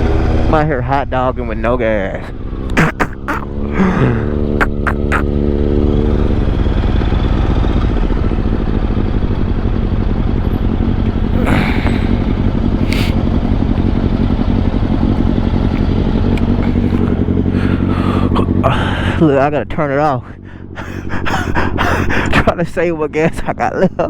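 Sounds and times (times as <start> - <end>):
motorcycle engine rumbling: 0.0 - 24.0.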